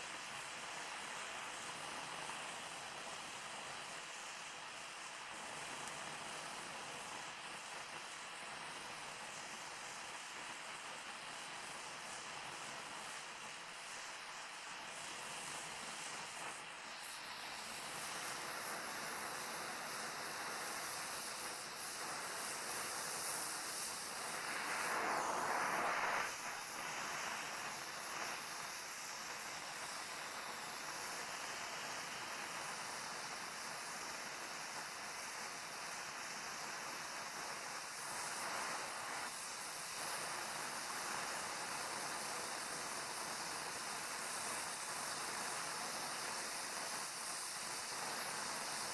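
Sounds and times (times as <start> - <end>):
welding torch flame hissing: 0.0 - 48.9.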